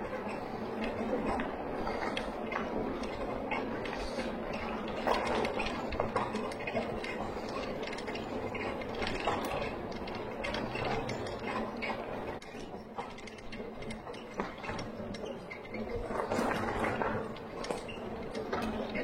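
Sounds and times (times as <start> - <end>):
bicycle rolling on trail: 0.0 - 19.0
clicking and rattling: 0.3 - 19.0.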